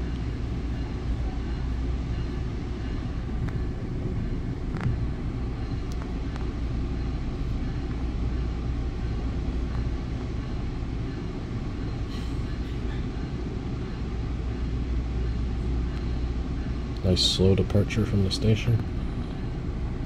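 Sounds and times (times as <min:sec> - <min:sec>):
train coach low rumble: 0:00.0 - 0:20.0.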